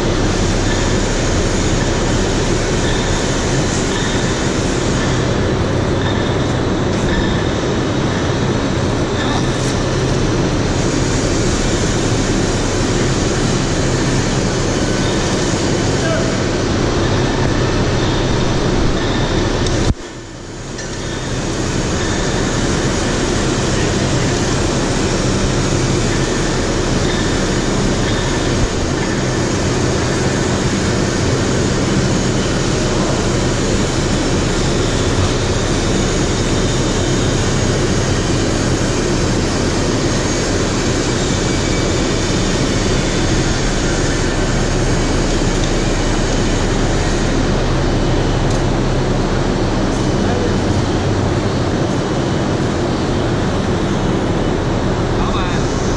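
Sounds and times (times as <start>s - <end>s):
industrial machinery rumble: 0.0s - 55.9s.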